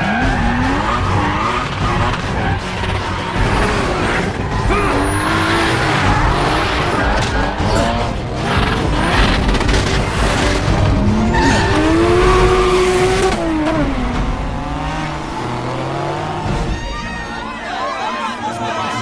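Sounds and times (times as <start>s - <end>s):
race car engines revving: 0.0s - 18.5s.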